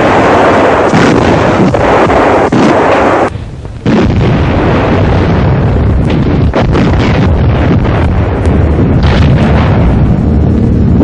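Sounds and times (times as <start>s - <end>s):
artillery blasts: 0.0s - 11.0s.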